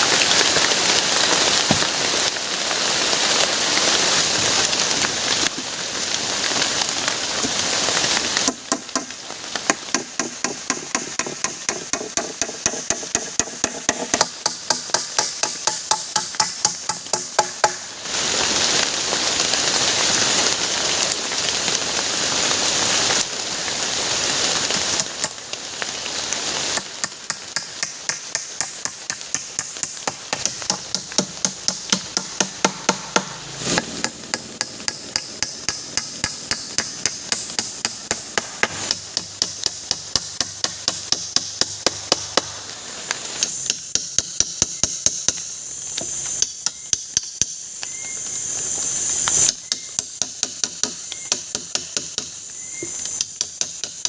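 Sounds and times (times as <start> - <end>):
heavy rain falling: 0.0 - 43.6.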